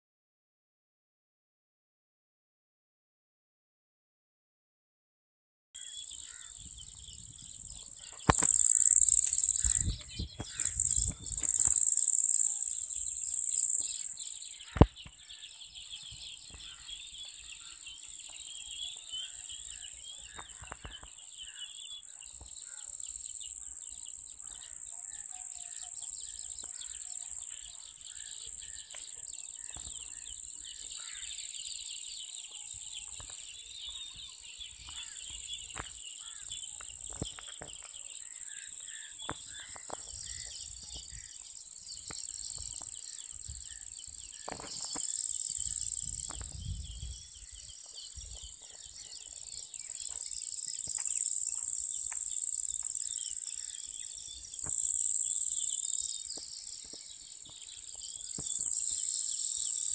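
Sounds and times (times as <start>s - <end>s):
birds twittering: 5.8s - 59.9s
insects chorus: 5.8s - 59.9s.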